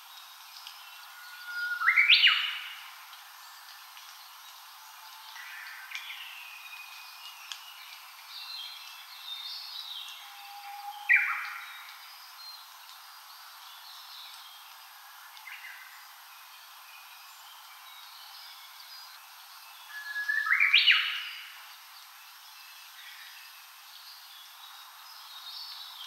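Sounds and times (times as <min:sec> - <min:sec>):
forest birds singing: 0:00.0 - 0:26.0.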